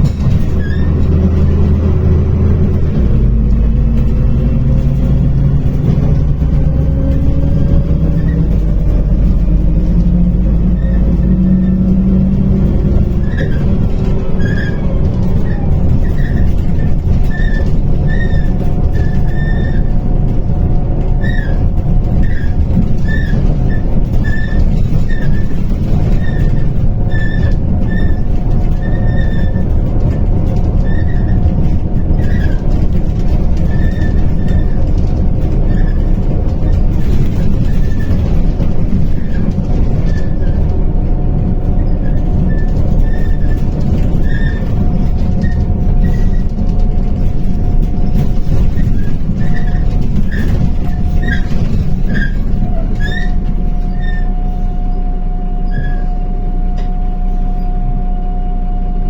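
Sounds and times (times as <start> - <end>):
high squeaks from bus body: 0.0 - 58.5
bus engine and road rumble: 0.0 - 59.0
constant whine: 0.0 - 59.0.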